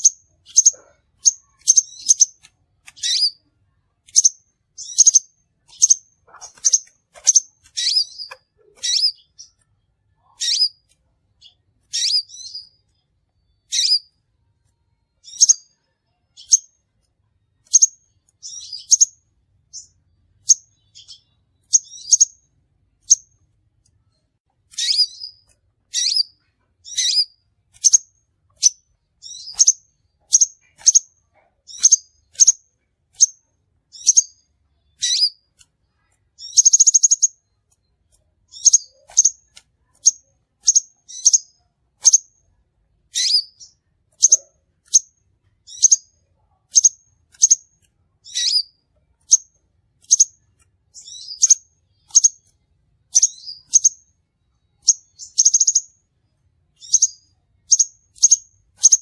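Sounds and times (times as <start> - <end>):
sunbird chirping: 0.0 - 14.2, 17.6 - 23.4, 24.7 - 35.4, 36.0 - 42.4, 43.1 - 56.1, 56.7 - 59.0.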